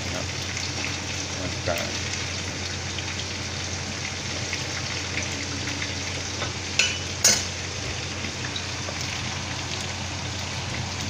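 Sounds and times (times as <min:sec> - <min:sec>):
wings frying in hot oil: 0:00.0 - 0:11.0.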